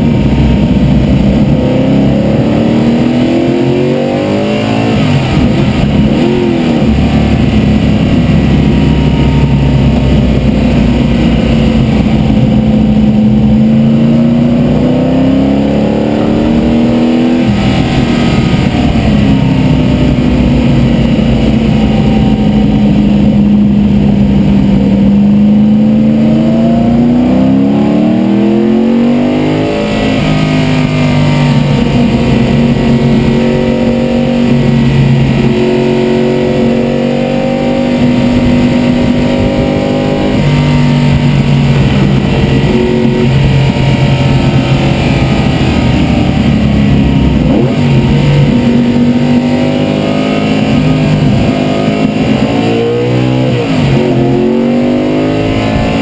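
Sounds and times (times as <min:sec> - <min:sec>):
race car engine from cockpit: 0:00.0 - 0:56.0.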